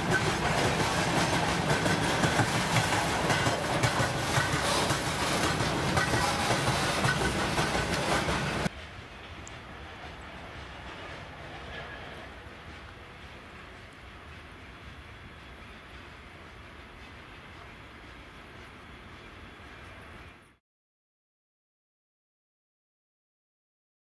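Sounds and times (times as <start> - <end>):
train wheels clacking over rail joints: 0.0 - 19.5
distant train rumble: 0.0 - 20.6.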